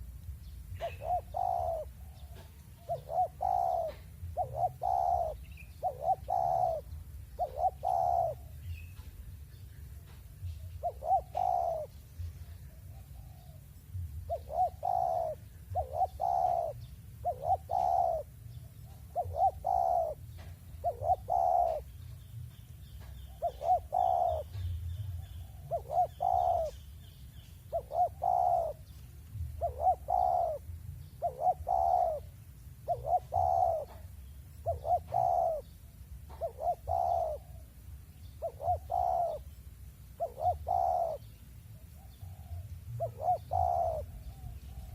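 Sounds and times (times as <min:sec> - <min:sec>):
dove cooing: 0:00.0 - 0:09.2, 0:10.0 - 0:44.9
faint small bird chirping: 0:00.0 - 0:44.9.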